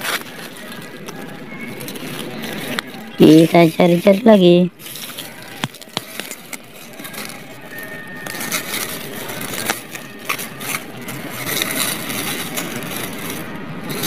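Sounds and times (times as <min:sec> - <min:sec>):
dry leaves and twigs rustling: 0:00.0 - 0:14.0.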